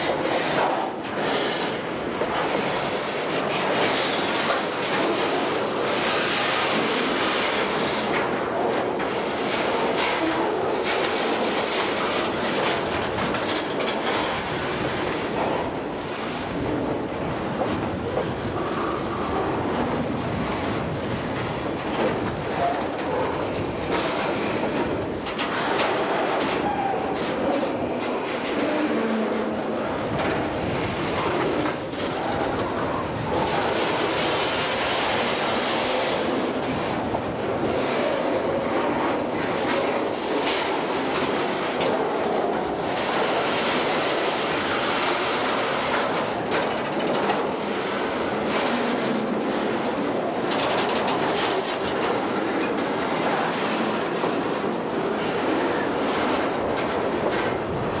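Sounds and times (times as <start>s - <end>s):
freight train wheels rumbling: 0.0s - 58.0s
wheels clicking over rail joints: 0.0s - 58.0s.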